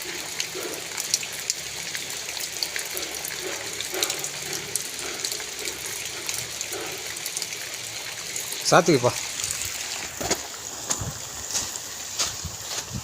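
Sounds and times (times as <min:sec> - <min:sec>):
heavy rain pouring: 0:00.0 - 0:13.0
sharp drips and splashes: 0:00.0 - 0:13.0.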